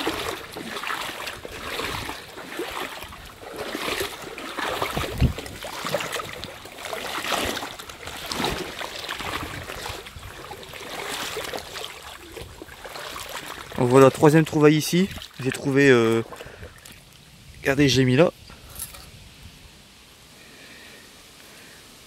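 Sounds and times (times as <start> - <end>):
water splashing and trickling: 0.0 - 19.5.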